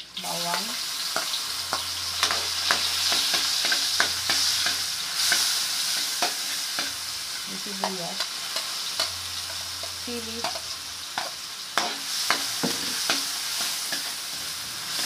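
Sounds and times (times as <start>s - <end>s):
garlic sizzling in hot oil: 0.0s - 15.0s
metal spatula scraping a pan: 0.6s - 15.0s.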